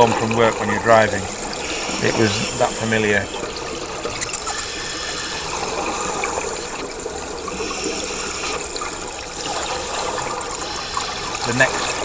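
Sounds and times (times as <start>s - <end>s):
scuba regulator bubbling: 0.0s - 12.0s.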